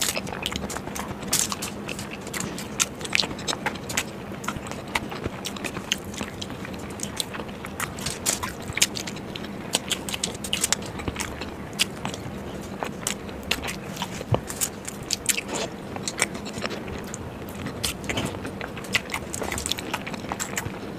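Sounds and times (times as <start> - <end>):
biting and chewing: 0.0 - 20.9.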